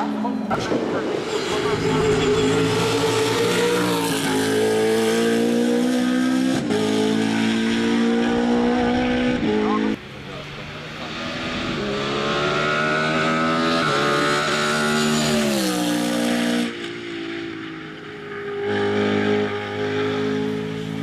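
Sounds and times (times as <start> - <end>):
racing engine revving: 0.0 - 16.8, 18.4 - 21.0.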